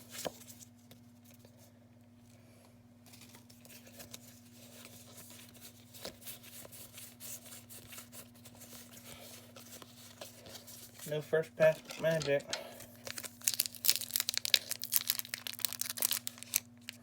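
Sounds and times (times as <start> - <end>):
low electrical hum: 0.0 - 17.0
foil wrapper crinkling and tearing: 3.1 - 17.0.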